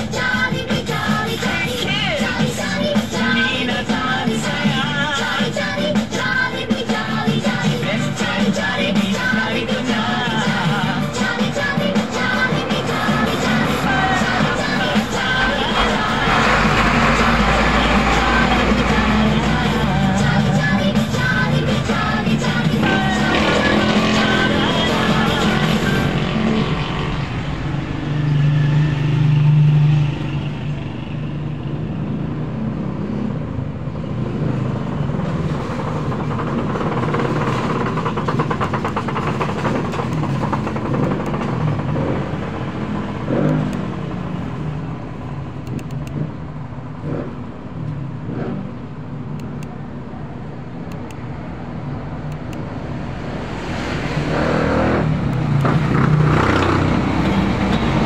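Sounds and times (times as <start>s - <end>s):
traffic passing by: 0.0s - 58.0s.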